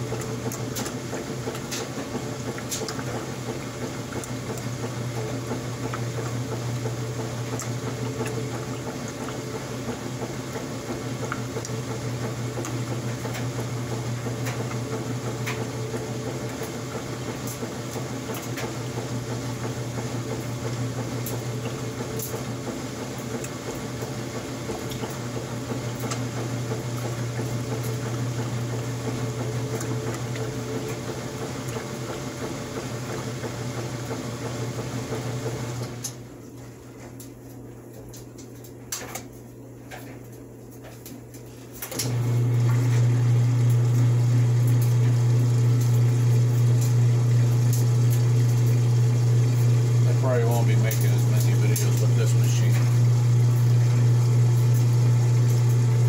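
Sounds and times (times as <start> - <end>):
washing machine motor hum: 0.0 - 56.0
water sloshing in tub: 0.0 - 56.0.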